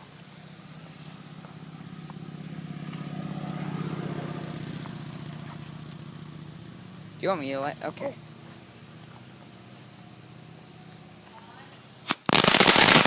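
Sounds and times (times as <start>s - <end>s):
vehicle engine passing by: 0.0s - 12.0s.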